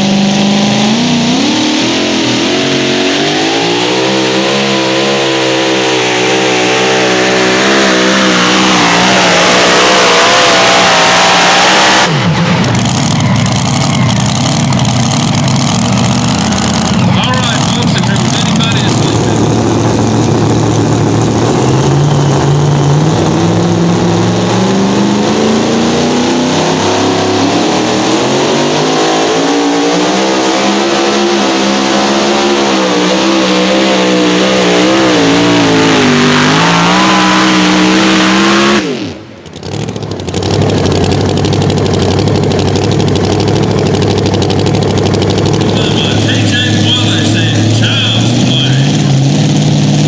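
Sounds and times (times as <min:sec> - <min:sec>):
engine running at low pitch: 0:00.0 - 0:50.0
tractor engine at full power: 0:00.0 - 0:50.0.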